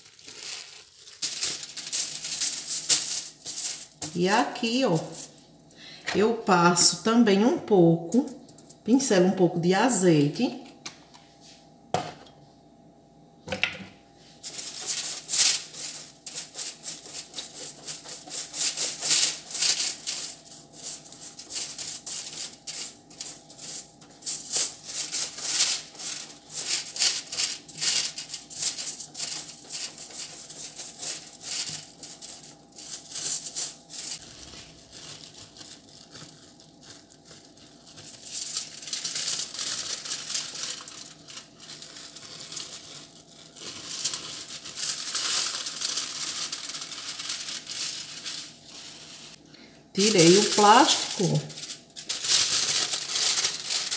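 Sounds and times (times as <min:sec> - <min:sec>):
cling film and foil crinkling: 0:00.0 - 0:05.9, 0:08.0 - 0:09.0, 0:14.4 - 0:53.9.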